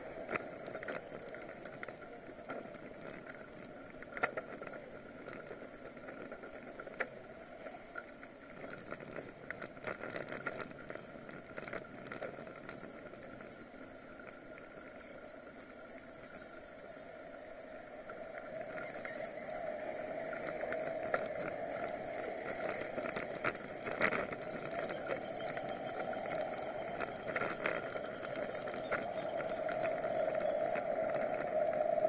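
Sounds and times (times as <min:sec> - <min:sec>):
bike clicks and rattles: 0:00.0 - 0:15.6, 0:18.1 - 0:32.0
bicycle riding on asphalt: 0:00.0 - 0:32.0.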